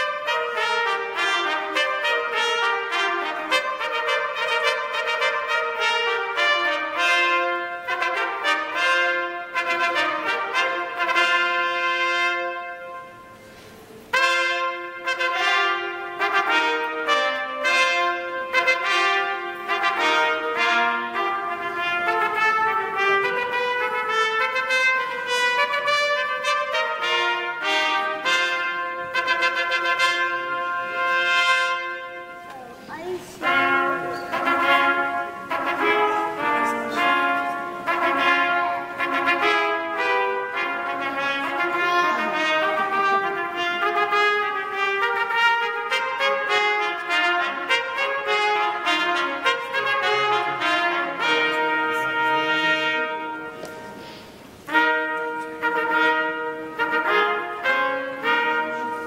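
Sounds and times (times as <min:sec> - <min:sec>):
brass ensemble playing: 0:00.0 - 0:59.0.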